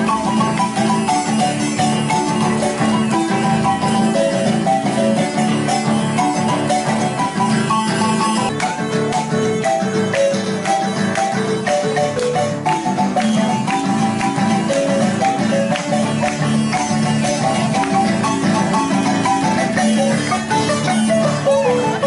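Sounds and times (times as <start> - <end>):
marimba playing quick runs: 0.0 - 22.0
strummed guitar: 0.0 - 22.0.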